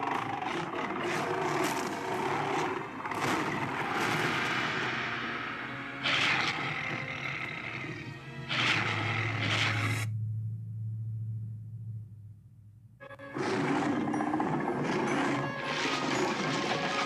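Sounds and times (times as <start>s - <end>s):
dinosaur roar: 0.0s - 10.1s, 13.2s - 17.0s
low rumbling growl: 0.0s - 17.0s.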